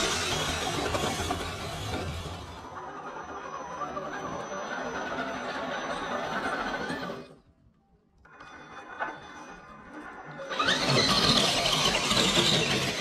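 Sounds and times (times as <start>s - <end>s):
electric motors and gears whining: 0.0s - 13.0s.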